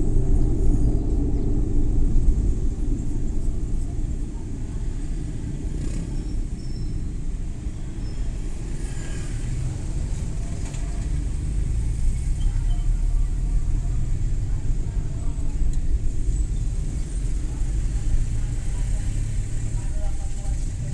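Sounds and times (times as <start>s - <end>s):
van engine and tyre rumble: 0.0s - 20.9s.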